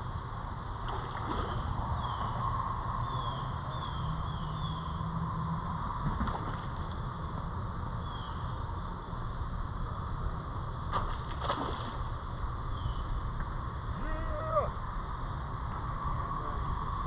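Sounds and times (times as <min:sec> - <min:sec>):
riverside background rumble: 0:00.0 - 0:17.0.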